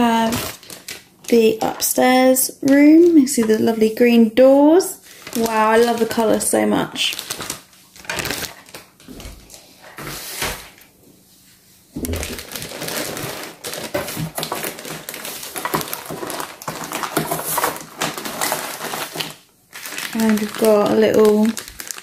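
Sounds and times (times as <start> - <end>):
plastic wrapping crinkling: 0.0 - 10.8, 12.0 - 22.0.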